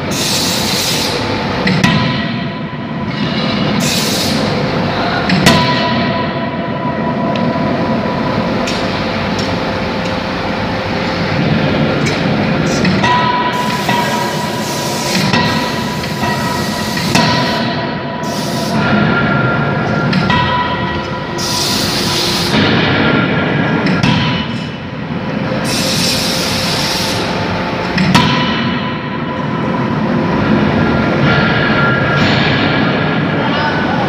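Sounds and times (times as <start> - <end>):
forging machine whining: 0.0 - 34.0.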